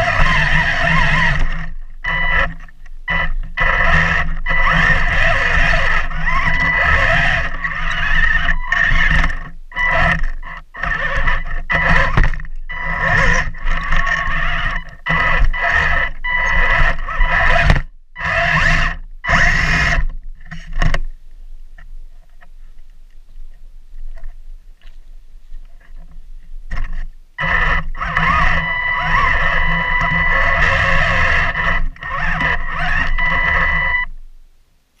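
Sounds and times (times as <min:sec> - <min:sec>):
electric motors whining: 0:00.0 - 0:20.9, 0:26.7 - 0:34.2.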